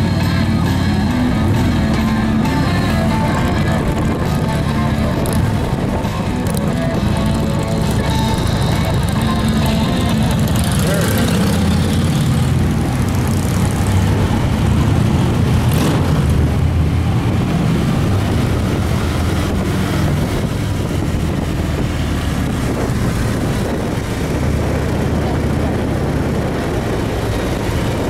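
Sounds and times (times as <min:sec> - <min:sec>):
motorcycle engines droning: 0:00.0 - 0:28.0.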